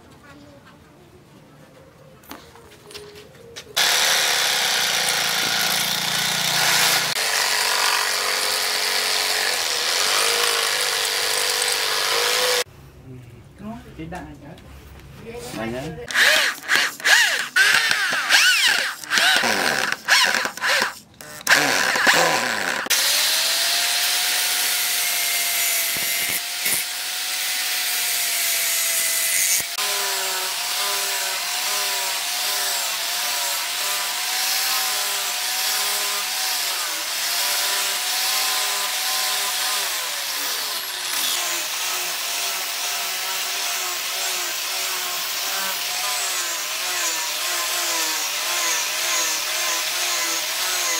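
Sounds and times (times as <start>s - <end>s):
angle grinder sanding wood: 3.8s - 12.7s, 15.6s - 50.9s
electric hand drill: 3.8s - 12.7s, 16.1s - 50.9s.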